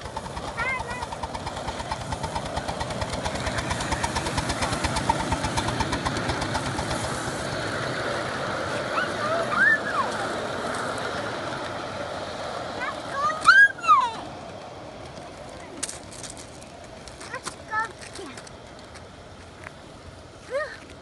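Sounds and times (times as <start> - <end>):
miniature train rolling on track: 0.0 - 21.0.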